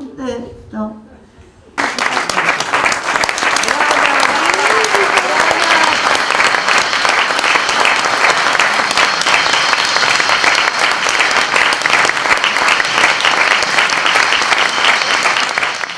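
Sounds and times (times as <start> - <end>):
audience applauding: 1.8 - 15.9.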